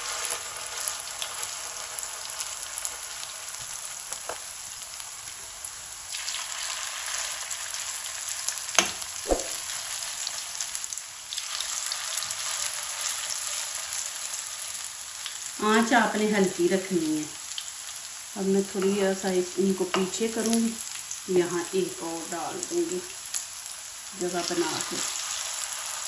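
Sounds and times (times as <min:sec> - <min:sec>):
patties sizzling in oil: 0:00.0 - 0:26.0.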